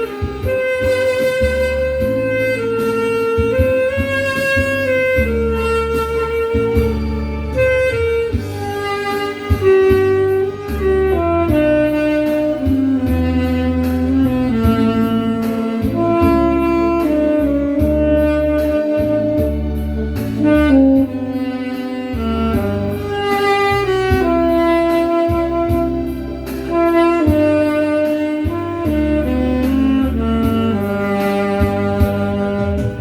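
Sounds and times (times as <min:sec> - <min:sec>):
backing track with bass and beat: 0:00.0 - 0:33.0
tenor saxophone melody: 0:00.0 - 0:33.0.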